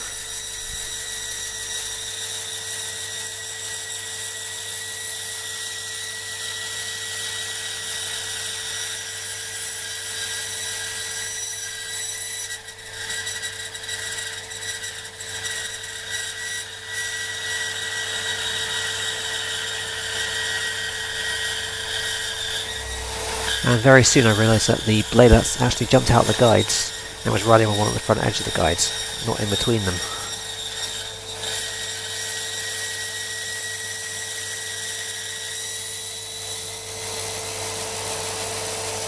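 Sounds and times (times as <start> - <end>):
bandsaw whining while cutting: 0.0 - 39.0.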